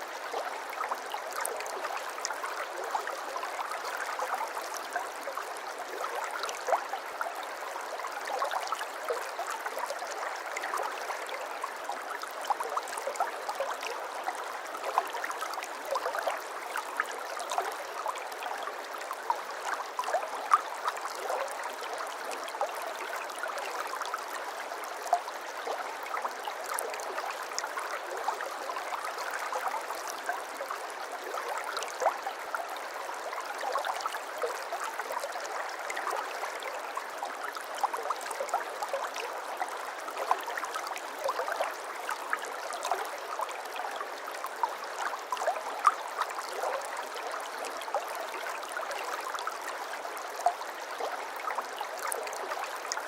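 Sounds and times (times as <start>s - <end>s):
stream water babbling: 0.0s - 53.0s.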